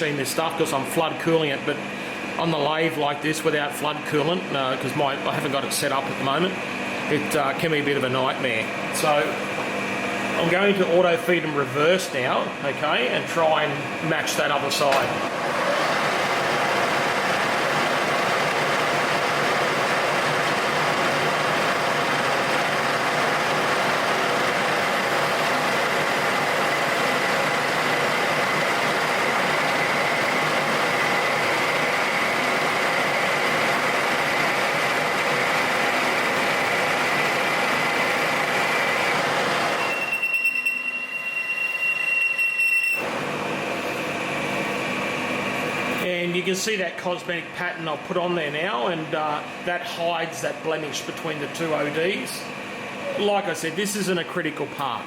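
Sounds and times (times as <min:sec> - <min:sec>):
metal lathe running: 0:00.0 - 0:55.0.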